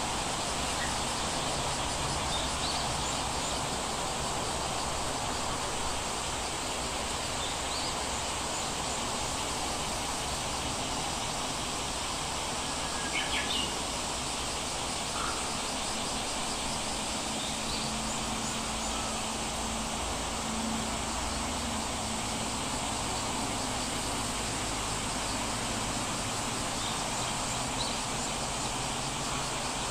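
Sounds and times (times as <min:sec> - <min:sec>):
ambient background hiss: 0:00.0 - 0:29.9.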